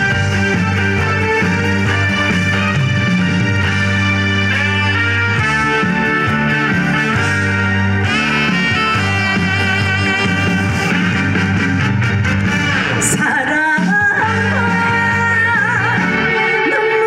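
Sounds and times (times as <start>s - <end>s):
instrumental pop music over loudspeakers: 0.0s - 17.0s.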